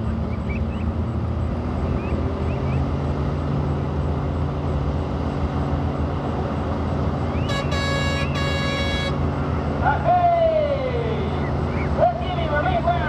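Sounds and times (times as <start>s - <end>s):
truck engine running hard under load: 0.0s - 13.0s.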